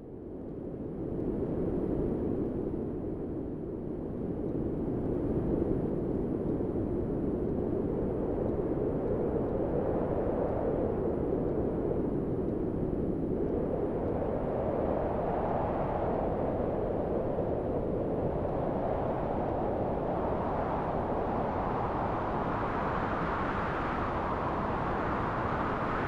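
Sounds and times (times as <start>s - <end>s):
synthesised wind noise: 0.0s - 26.0s.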